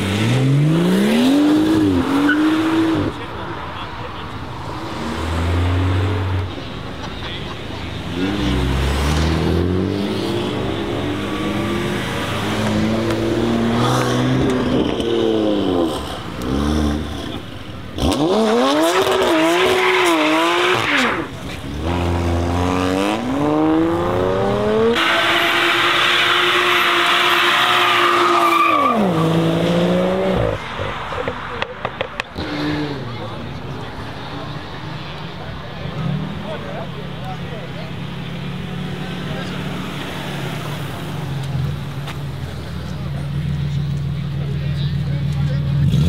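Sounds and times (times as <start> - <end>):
cars accelerating and revving: 0.0 - 46.0.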